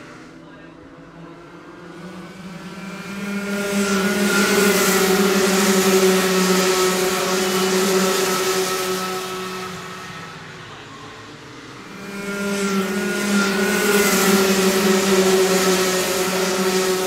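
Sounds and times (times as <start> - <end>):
kart engines passing by: 0.0 - 17.0.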